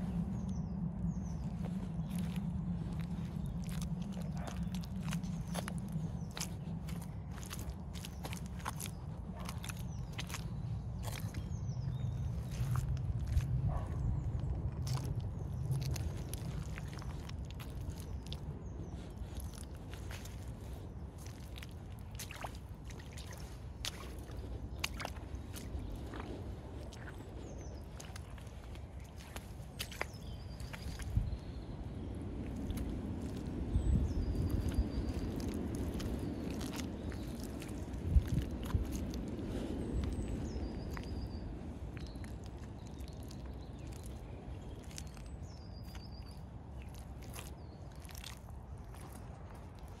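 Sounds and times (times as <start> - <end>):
shoes squelching through wet mud: 0.0 - 50.0.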